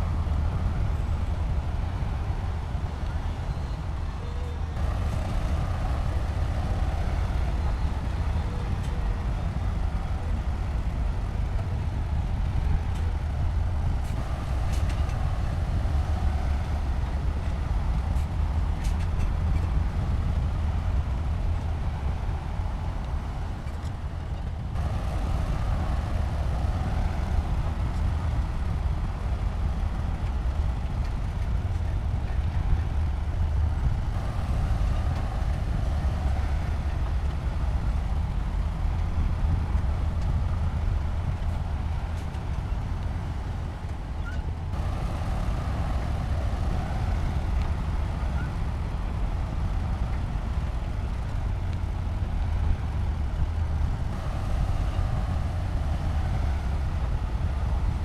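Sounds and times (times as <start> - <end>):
heavy diesel machinery engine drone: 0.0 - 58.0.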